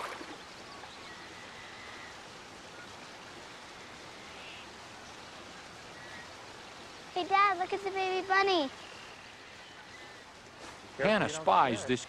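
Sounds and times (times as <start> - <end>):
creek running over stones: 0.0 - 12.0.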